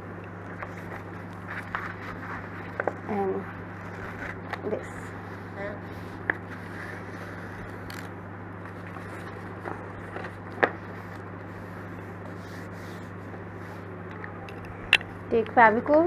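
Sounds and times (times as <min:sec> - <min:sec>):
steady low hum: 0:00.0 - 0:16.0
paper rustling and scraping: 0:00.6 - 0:13.9.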